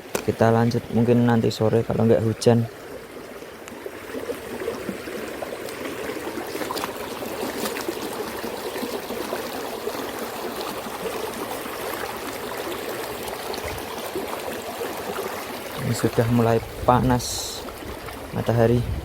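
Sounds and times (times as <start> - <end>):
river current running: 0.0 - 19.0.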